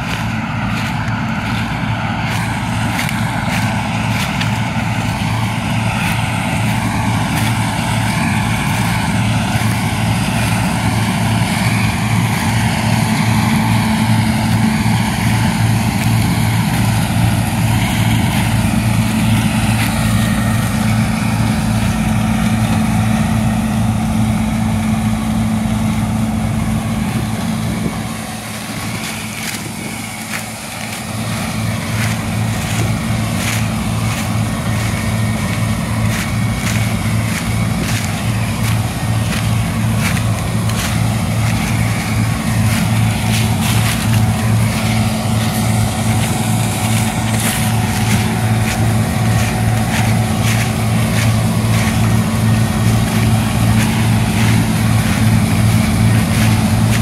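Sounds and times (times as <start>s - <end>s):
combine engine drone: 0.0s - 57.0s
threshing machinery whine: 0.0s - 57.0s.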